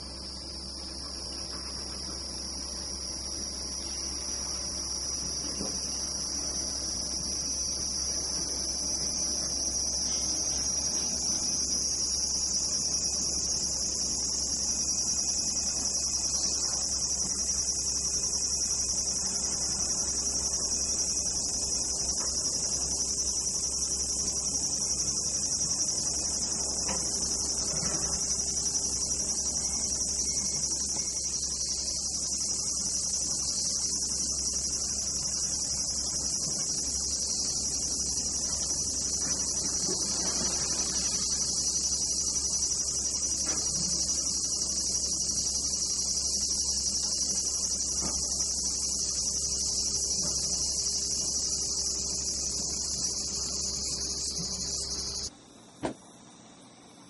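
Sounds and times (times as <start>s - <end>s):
insects singing: 0.0s - 57.0s.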